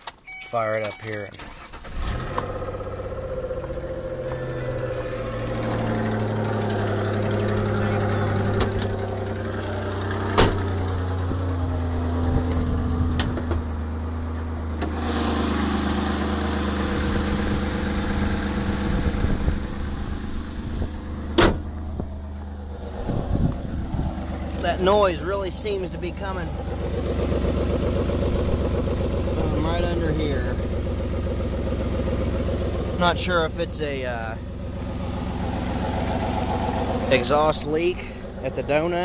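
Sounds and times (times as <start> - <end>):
car engine idling: 0.2 - 39.0.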